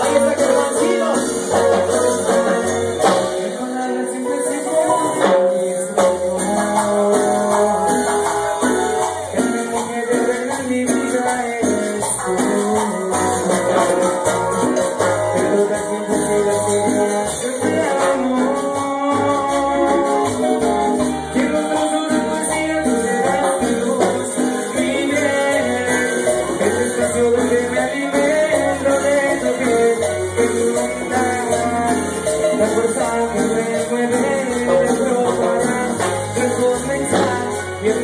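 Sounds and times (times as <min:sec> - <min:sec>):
latin band music: 0:00.0 - 0:38.0
person singing: 0:00.0 - 0:38.0.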